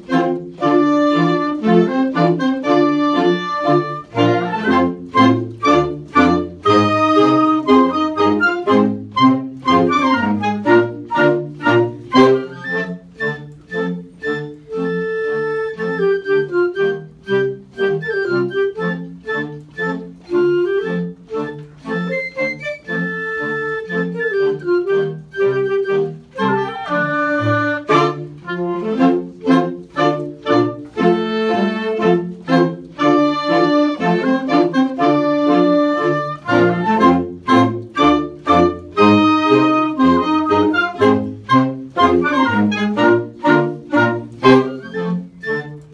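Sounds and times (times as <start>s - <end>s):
clarinets playing a march: 0.0s - 45.9s.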